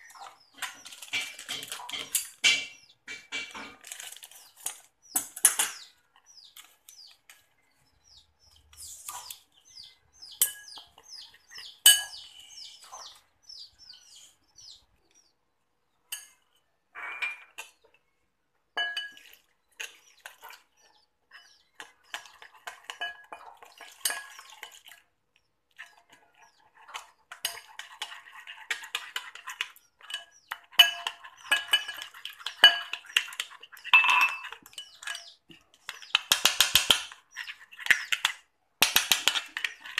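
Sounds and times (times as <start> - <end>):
metal spoon stirring in glass bowl: 0.0 - 7.4, 8.0 - 13.2, 18.8 - 39.9.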